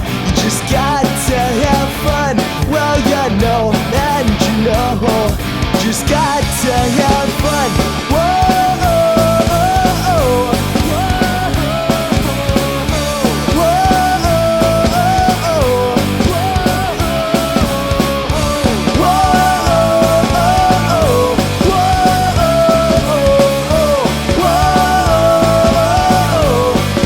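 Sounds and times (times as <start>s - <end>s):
punk rock band playing: 0.0s - 27.0s
sliding lead guitar line: 0.0s - 27.0s.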